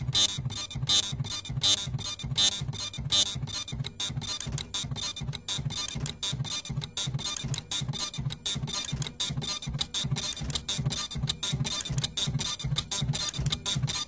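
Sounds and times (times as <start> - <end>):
dot matrix printer music: 0.0 - 14.0.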